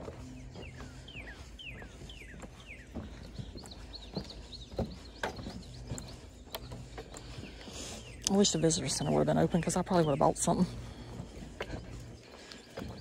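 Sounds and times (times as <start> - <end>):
bird singing: 0.0 - 13.0.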